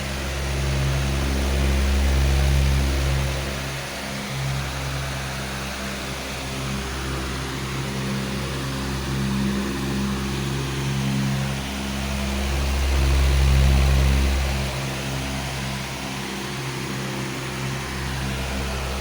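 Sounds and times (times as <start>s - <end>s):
electric fan running: 0.0s - 19.0s.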